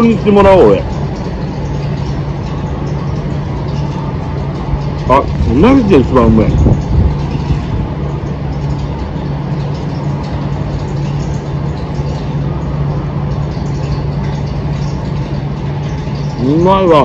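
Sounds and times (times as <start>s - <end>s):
machine drone: 0.0s - 17.0s.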